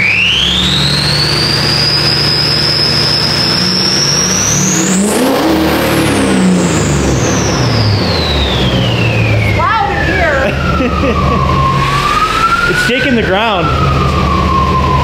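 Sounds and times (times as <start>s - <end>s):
diesel engine revving: 0.0s - 15.0s
turbocharger whistle: 0.0s - 15.0s.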